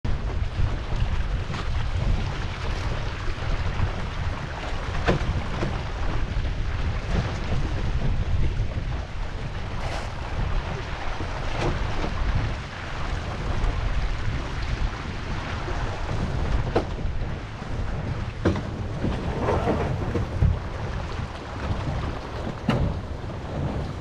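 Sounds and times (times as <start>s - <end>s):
water rushing past hull: 0.0s - 24.0s
wind buffeting microphone: 0.0s - 24.0s
spray splashing on hull: 1.2s - 24.0s.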